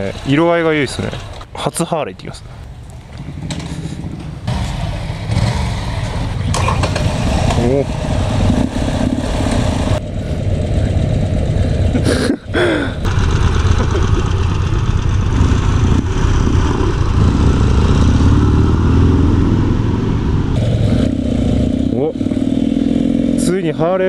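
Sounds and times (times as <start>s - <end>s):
motorcycle engine idling and revving: 0.0s - 1.5s, 2.6s - 24.0s.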